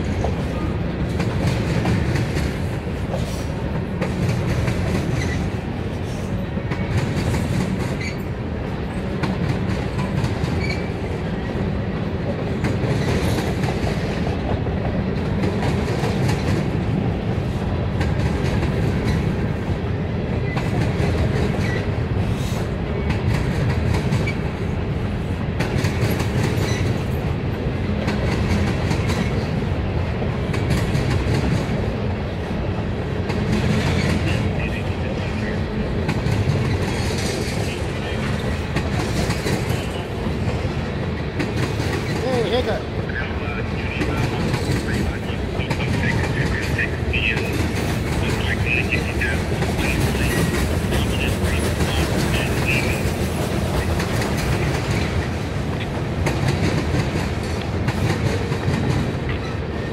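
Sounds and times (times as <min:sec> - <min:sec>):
freight cars rumbling: 0:00.0 - 0:59.9.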